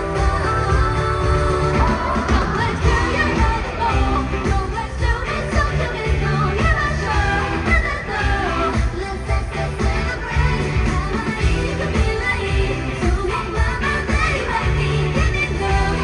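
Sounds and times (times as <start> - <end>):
heavy pop beat: 0.0 - 16.0
woman singing into a microphone: 0.0 - 16.0.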